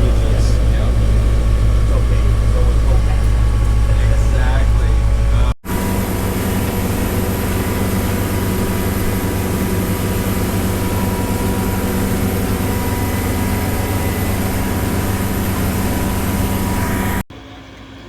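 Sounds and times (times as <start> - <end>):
thin higher whine: 0.0 - 17.2
heavy engine drone: 0.0 - 17.3.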